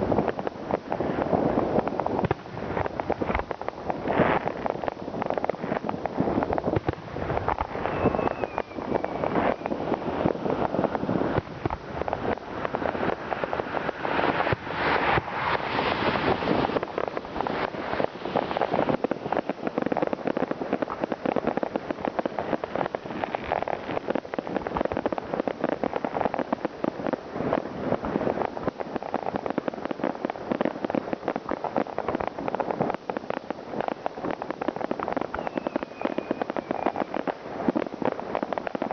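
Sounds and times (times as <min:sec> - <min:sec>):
fireworks and firecrackers crackling: 0:00.0 - 0:38.9.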